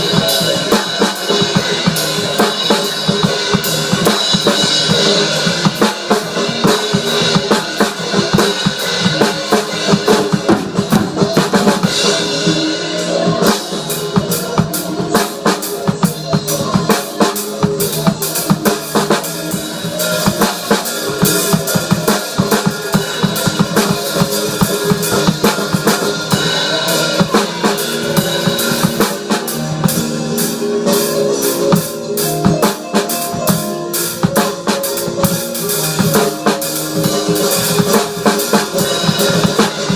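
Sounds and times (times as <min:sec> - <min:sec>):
drum kit played fast: 0:00.0 - 0:39.9.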